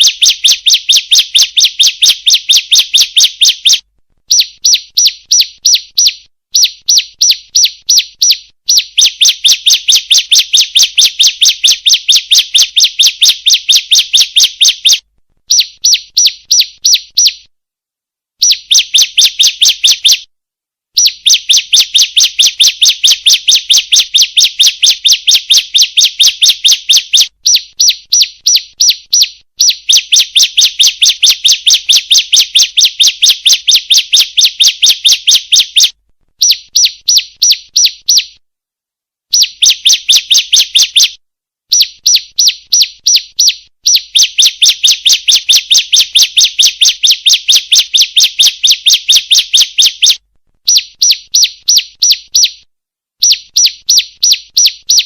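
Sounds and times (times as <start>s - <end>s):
bird sharp chirps: 0.0s - 17.5s, 18.4s - 20.3s, 21.0s - 38.4s, 39.3s - 55.0s.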